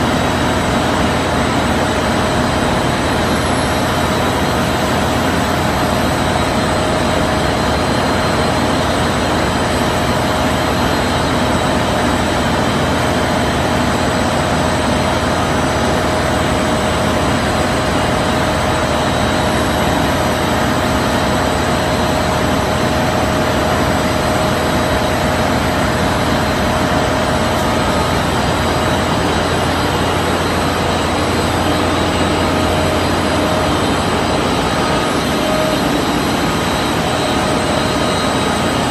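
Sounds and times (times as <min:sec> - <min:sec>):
fabric washing machine whining: 0:00.0 - 0:38.9.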